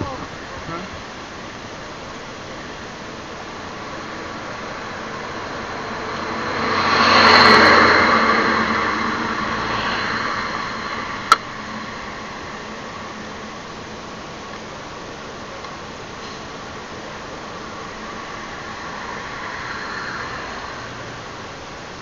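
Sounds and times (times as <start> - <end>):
steady background hiss: 0.0 - 22.0
vehicle passing by: 1.9 - 14.4, 16.2 - 22.0.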